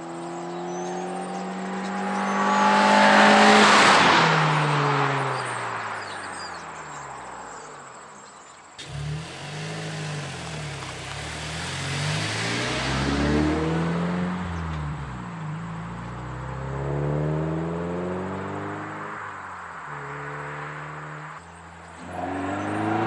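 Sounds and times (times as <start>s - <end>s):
car engine accelerating: 0.0s - 7.0s, 8.8s - 23.0s
car engine driving by: 0.0s - 7.3s, 8.8s - 23.0s.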